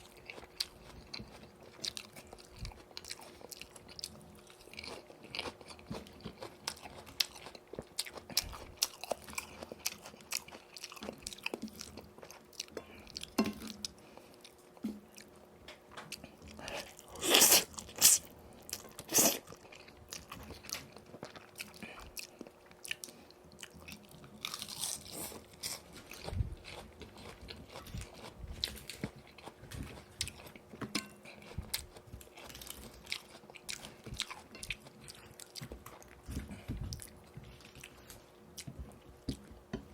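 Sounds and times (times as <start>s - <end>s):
chewing and crunching fried chicken: 0.0s - 39.9s.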